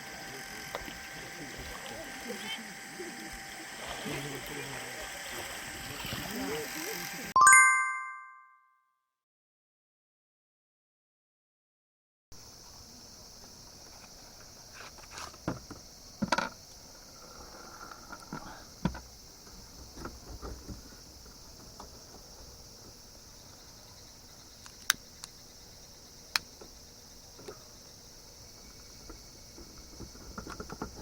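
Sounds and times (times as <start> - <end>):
insects chirring: 0.0 - 7.3, 12.4 - 31.0.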